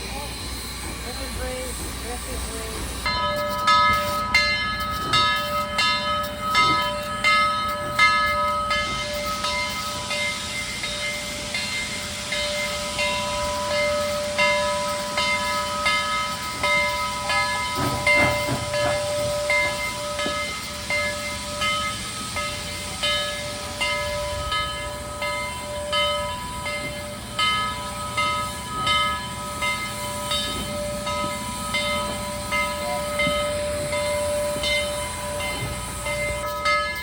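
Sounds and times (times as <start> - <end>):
locomotive bell ringing: 0.0 - 37.0
train hiss and rumble: 0.0 - 37.0.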